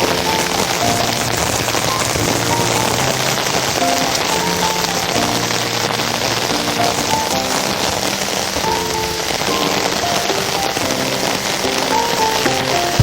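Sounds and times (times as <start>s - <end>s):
heavy rain hissing: 0.0s - 13.0s
melody of held notes: 0.0s - 13.0s.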